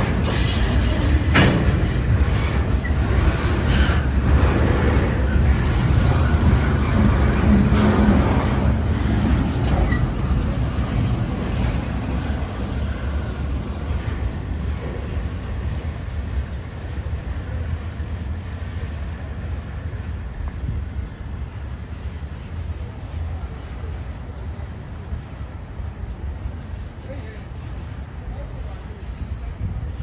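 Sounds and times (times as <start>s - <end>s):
freight train cars rolling on rails: 0.0s - 30.0s.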